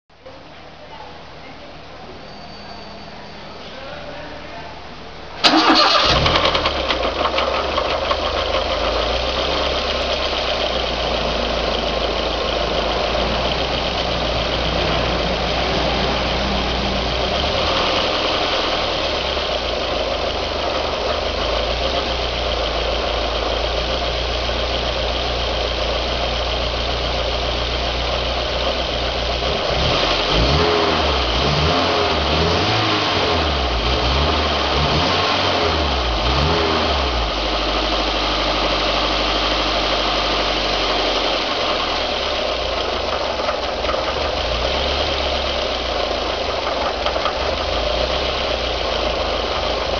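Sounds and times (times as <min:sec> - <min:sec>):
car engine idling and revving: 0:05.3 - 0:49.9.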